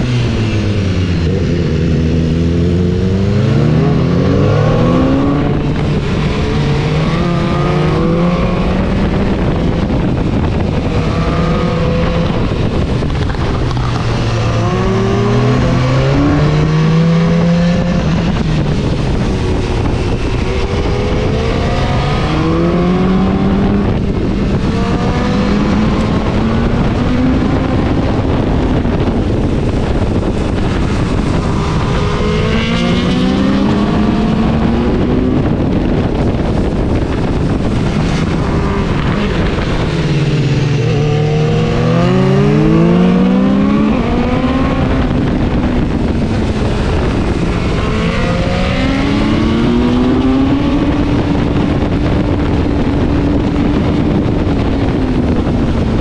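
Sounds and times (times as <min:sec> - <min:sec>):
motorcycle engine accelerating: 0:00.0 - 0:56.0
wind rush on microphone: 0:00.0 - 0:56.0.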